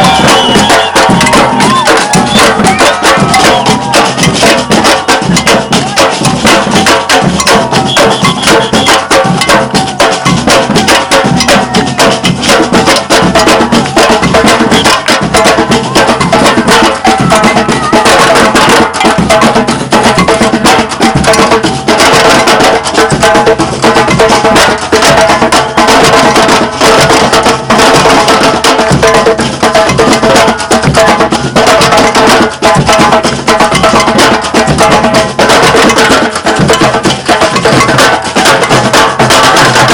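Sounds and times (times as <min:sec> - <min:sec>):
clicking hand percussion: 0:00.0 - 0:39.9
percussion ensemble drumming: 0:00.0 - 0:39.9.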